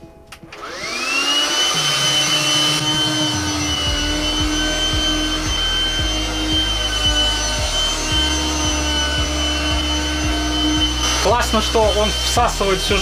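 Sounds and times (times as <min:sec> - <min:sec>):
window vacuum motor whine: 0:00.5 - 0:13.0.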